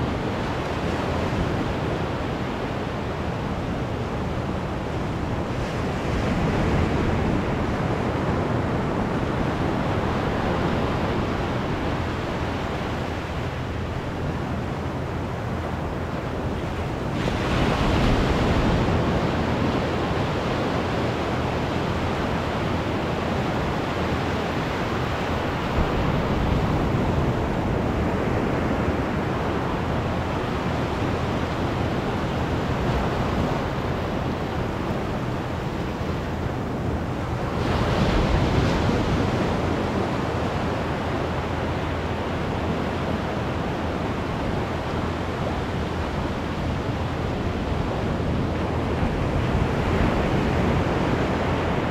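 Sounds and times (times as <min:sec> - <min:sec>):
ocean surf breaking on beach: 0:00.0 - 0:51.9.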